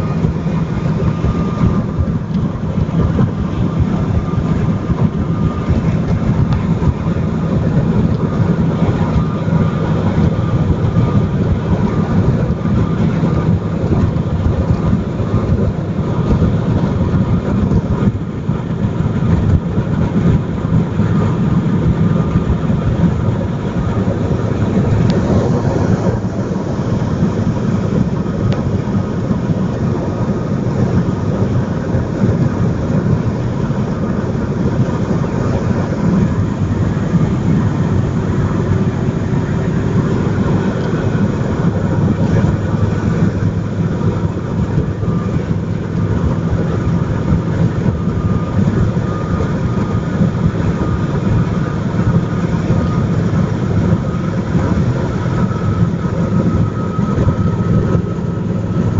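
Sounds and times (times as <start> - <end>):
car engine: 0.0 - 58.9
wind noise: 0.0 - 58.9.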